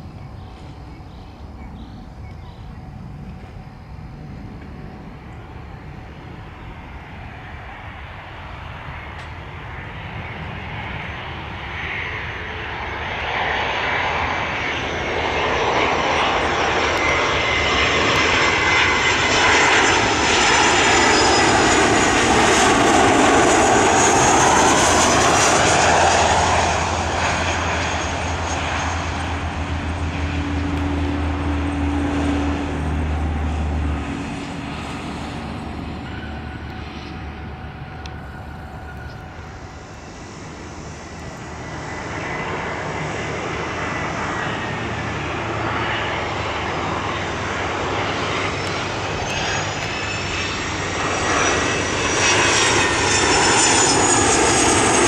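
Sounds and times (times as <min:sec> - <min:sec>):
jet engines passing: 0:00.0 - 0:55.0.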